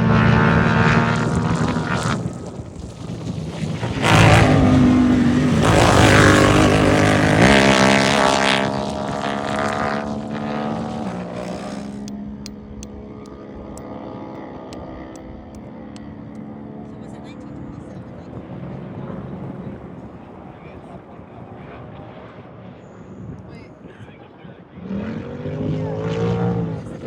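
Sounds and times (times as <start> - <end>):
turbocharged engines racing: 0.0 - 27.0.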